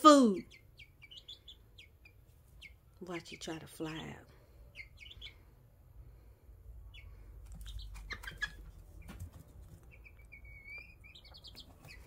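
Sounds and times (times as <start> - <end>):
chicks peeping: 0.3 - 12.0.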